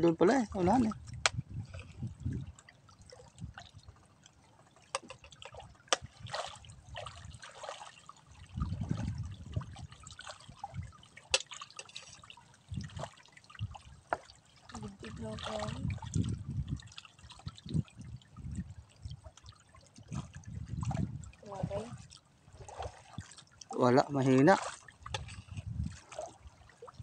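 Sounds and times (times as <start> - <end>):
water lapping and dripping: 0.0 - 27.0.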